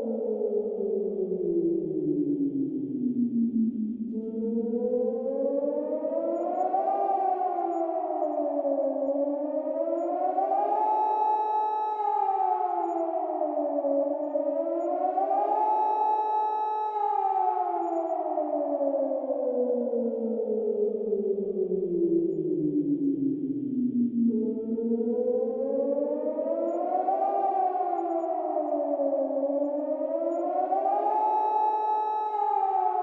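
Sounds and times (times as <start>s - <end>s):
siren wailing: 3.5s - 33.0s.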